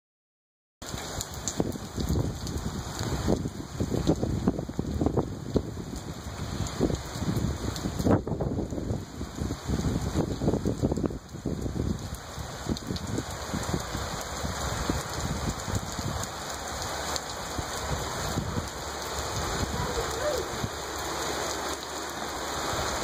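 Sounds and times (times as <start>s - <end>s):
heavy rain pouring: 0.8s - 23.0s
raindrops striking close by: 0.8s - 23.0s.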